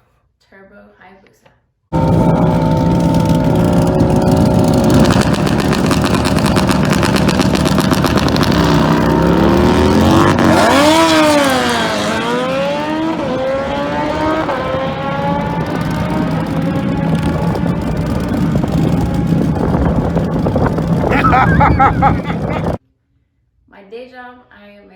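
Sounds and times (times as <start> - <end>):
motorcycle engine revving: 2.0 - 22.8.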